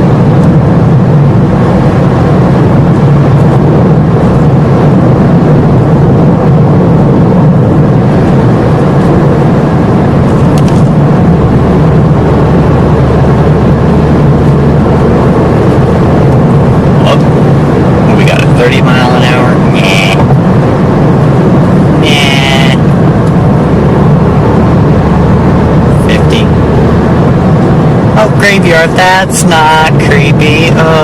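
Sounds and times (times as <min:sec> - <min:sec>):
car engine and road noise: 0:00.0 - 0:31.0
deep steady hum: 0:00.0 - 0:31.0.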